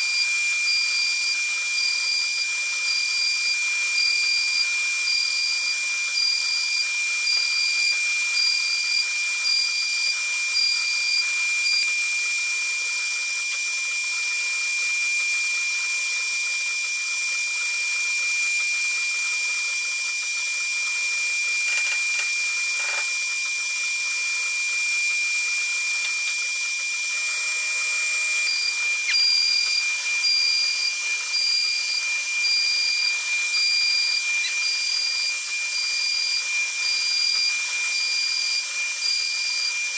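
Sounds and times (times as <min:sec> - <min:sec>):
router spindle whining: 0:00.0 - 0:15.6, 0:16.4 - 0:39.9.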